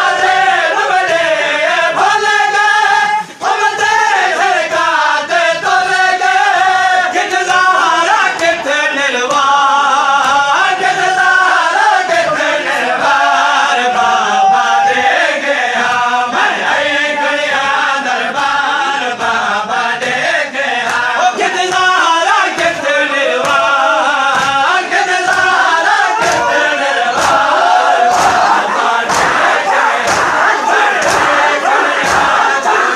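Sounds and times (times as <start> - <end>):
crowd chanting a lament: 0.0 - 32.9
rhythmic chest-beating strikes: 0.0 - 32.9.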